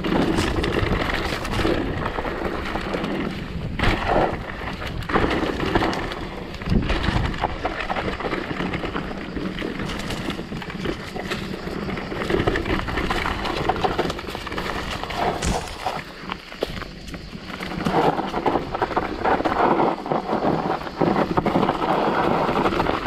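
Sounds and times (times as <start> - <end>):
bike rattling and knocking: 0.0 - 23.0
wind rushing on microphone: 0.0 - 23.0.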